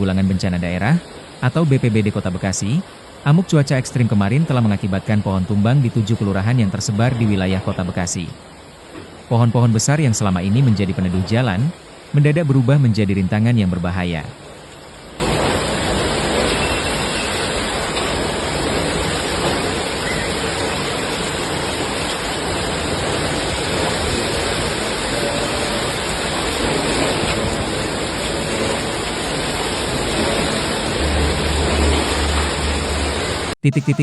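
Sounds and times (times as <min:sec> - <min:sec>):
heavy rain pouring: 0:00.0 - 0:34.0
wind: 0:00.0 - 0:34.0.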